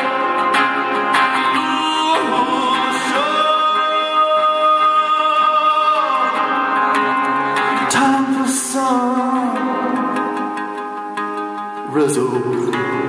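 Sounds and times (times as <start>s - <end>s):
man singing: 0.0s - 10.8s, 11.9s - 13.0s
ukulele: 0.0s - 13.0s.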